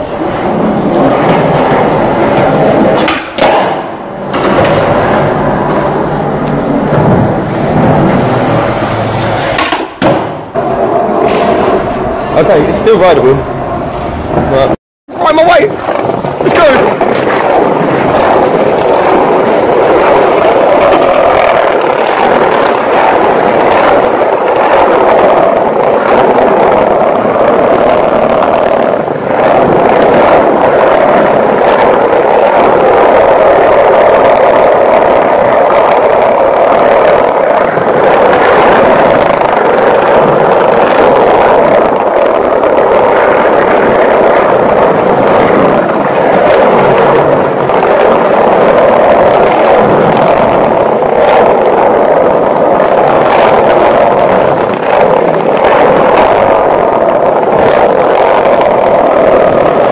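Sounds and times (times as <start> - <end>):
skateboard wheels rolling on concrete: 0.0 - 59.9.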